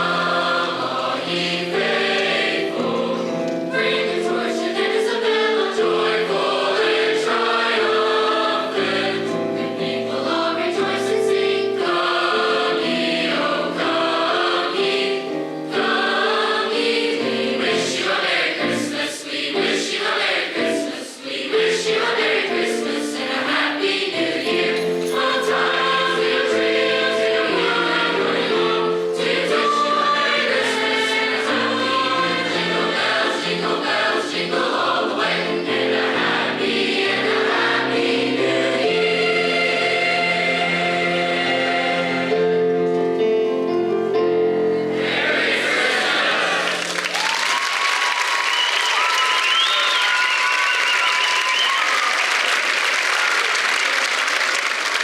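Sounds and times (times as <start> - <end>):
choir singing: 0.0 - 47.1, 48.6 - 52.7.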